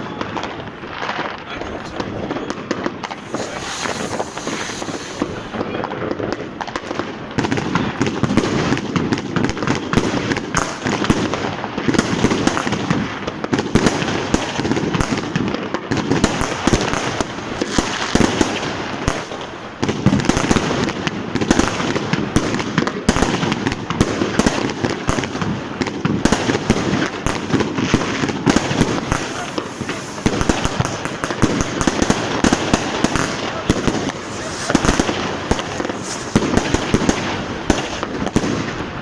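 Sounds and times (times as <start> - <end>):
fireworks and firecrackers banging: 0.0 - 39.0.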